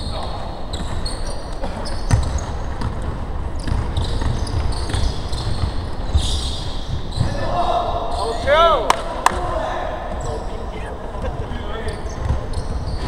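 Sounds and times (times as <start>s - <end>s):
sneakers squeaking: 0.0s - 8.8s, 10.0s - 13.0s.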